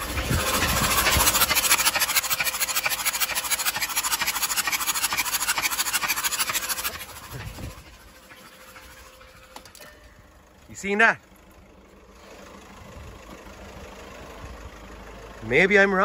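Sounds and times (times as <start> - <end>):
diesel engine cranking on starter: 0.0 - 16.0.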